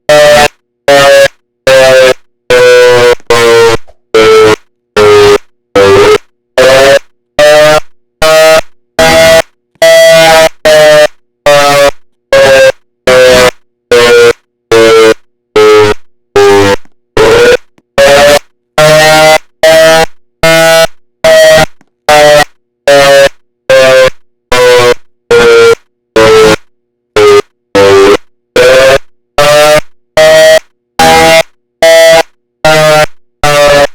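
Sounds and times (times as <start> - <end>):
siren pulsed wail: 0.1 - 26.6, 27.2 - 33.9.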